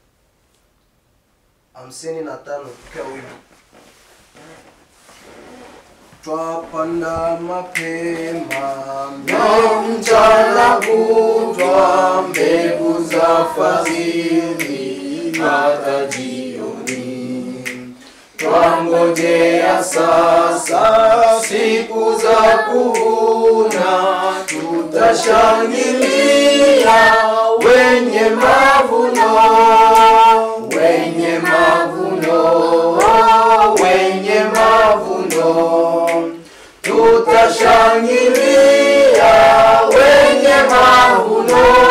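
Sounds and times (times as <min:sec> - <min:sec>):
choir singing a cappella hymn: 0:06.3 - 0:41.9.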